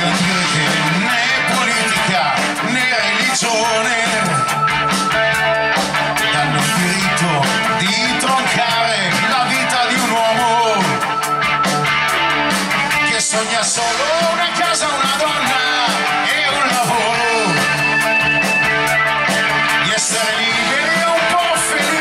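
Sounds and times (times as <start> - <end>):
bass guitar: 0.0 - 22.0
drum kit: 0.0 - 22.0
electric guitar: 0.0 - 22.0
wavering lead melody: 0.0 - 22.0.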